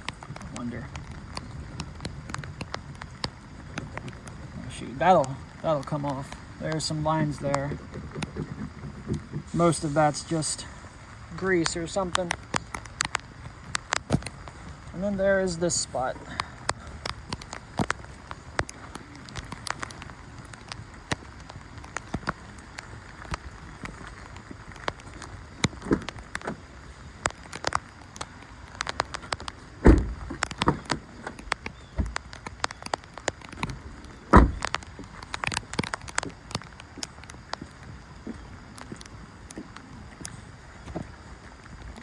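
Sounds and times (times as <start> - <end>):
rain drops ticking: 0.0 - 42.0
rain hiss: 0.0 - 42.0.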